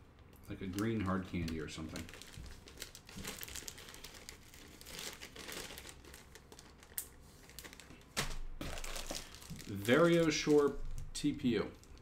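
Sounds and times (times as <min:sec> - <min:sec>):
packaging crinkling and rustling: 0:00.5 - 0:12.0.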